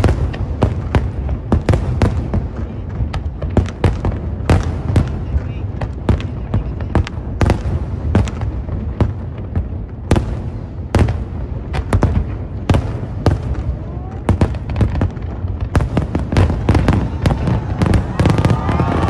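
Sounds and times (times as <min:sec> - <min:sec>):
fireworks bangs and cracks: 0:00.0 - 0:19.0
low rumble of explosions: 0:00.0 - 0:19.0.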